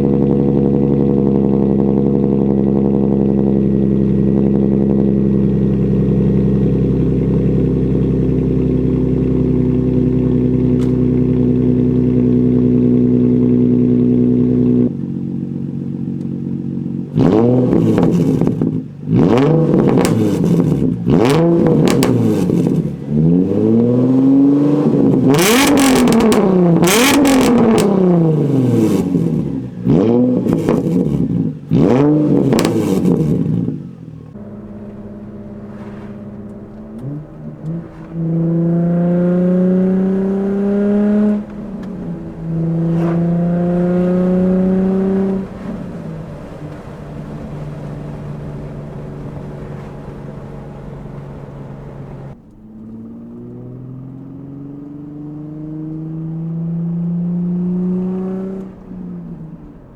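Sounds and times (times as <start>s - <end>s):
car engine revving: 0.0s - 59.9s
exhaust cracks: 0.0s - 59.9s
gear change: 0.0s - 59.9s.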